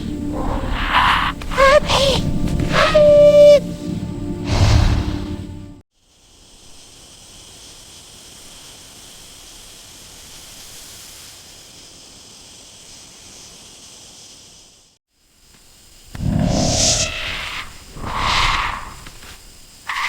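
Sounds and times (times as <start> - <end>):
outdoor background hiss: 3.6 - 20.0.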